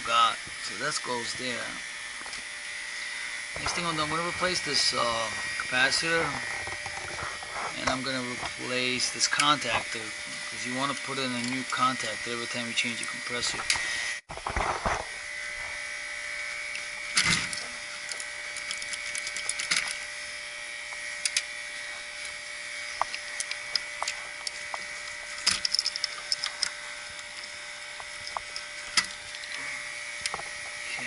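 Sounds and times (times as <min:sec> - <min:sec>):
steady electrical hum: 0:00.0 - 0:31.0
wires clicking and rustling: 0:03.6 - 0:15.1, 0:16.6 - 0:20.2, 0:20.8 - 0:31.0.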